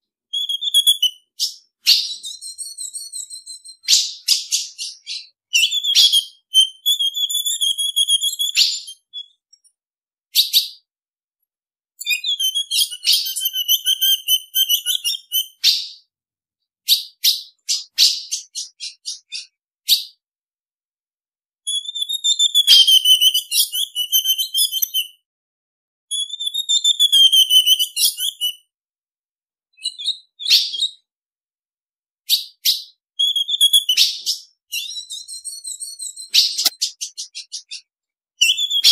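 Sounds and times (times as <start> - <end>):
bird chip notes and calls: 0.3 - 10.9, 12.0 - 16.1, 16.9 - 20.2, 21.7 - 25.2, 26.1 - 28.7, 29.7 - 31.1, 32.3 - 38.9.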